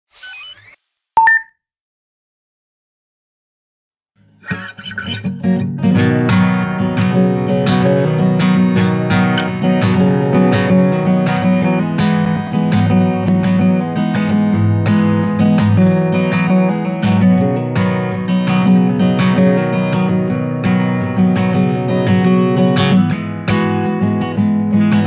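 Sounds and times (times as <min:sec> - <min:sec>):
strummed acoustic guitar: 0:04.2 - 0:25.0.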